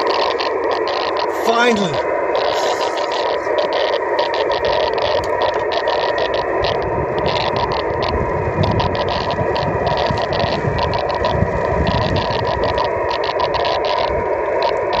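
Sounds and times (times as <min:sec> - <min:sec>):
radio static hiss: 0:00.0 - 0:15.0
rough steady tone: 0:00.0 - 0:15.0.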